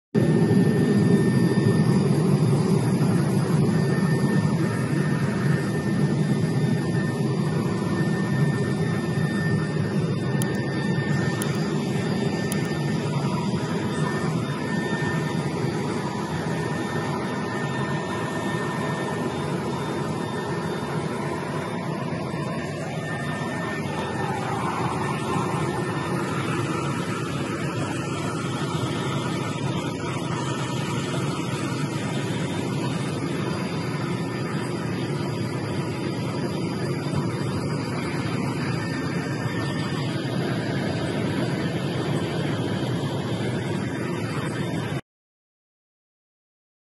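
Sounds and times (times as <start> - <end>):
faint high whine: 0.2 - 45.0
helicopter rotor and turbine drone: 0.2 - 45.0.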